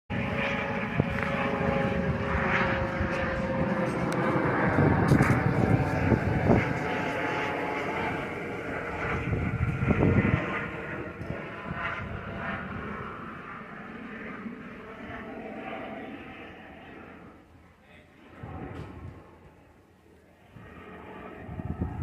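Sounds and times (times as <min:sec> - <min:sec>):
helicopter flying low: 0:00.1 - 0:22.0.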